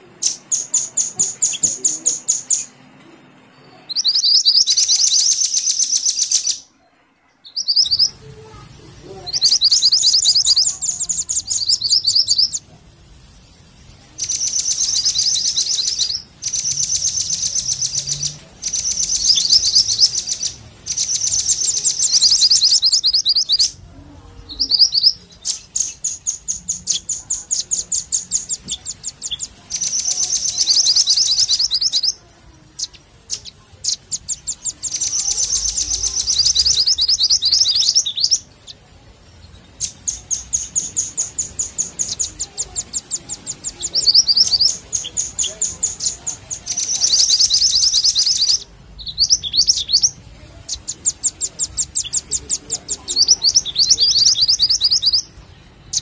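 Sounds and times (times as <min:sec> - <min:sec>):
songbird chattering chirps: 0:00.0 - 0:56.0.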